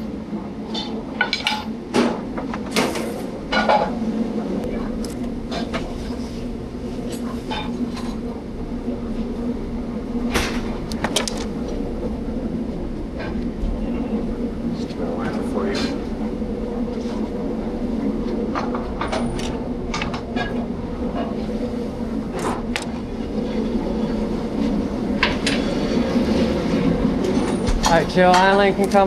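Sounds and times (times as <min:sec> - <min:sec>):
background hum: 0:00.0 - 0:29.0.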